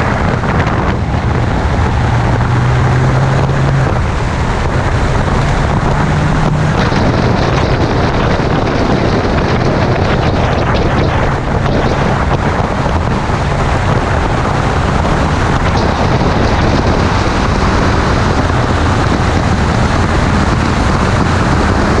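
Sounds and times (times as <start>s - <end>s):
car running noise: 0.0s - 22.0s
loud wind noise on microphone: 0.0s - 22.0s.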